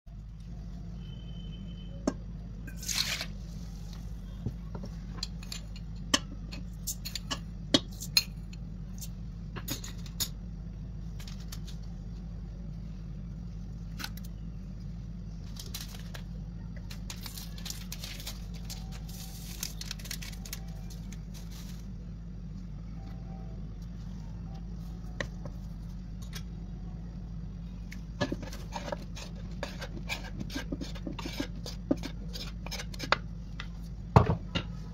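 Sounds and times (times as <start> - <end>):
steady low hum: 0.1 - 34.9.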